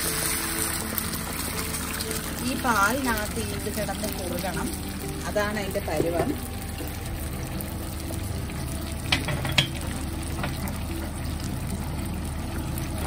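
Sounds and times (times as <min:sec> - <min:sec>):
fish sizzling in coconut milk: 0:00.0 - 0:13.0.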